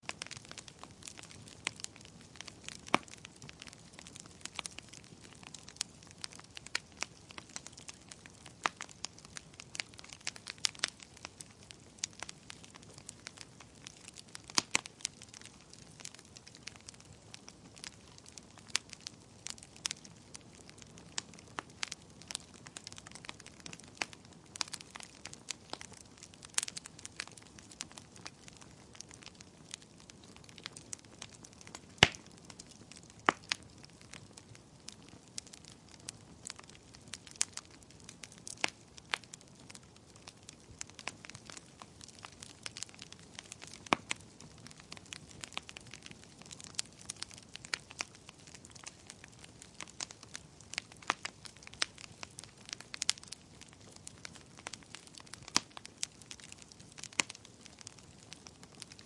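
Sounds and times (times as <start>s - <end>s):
bonfire crackling and popping: 0.0s - 59.0s
soft hiss of burning: 0.0s - 59.0s.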